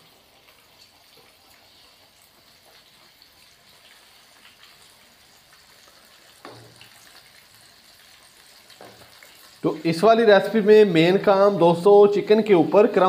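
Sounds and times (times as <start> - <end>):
chicken deep-frying in oil: 0.0 - 13.0.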